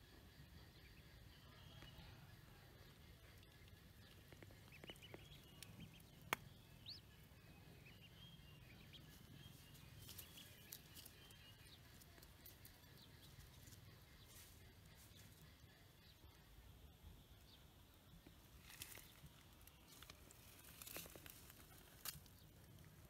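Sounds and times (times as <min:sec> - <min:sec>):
bird chirps: 0:00.0 - 0:22.5.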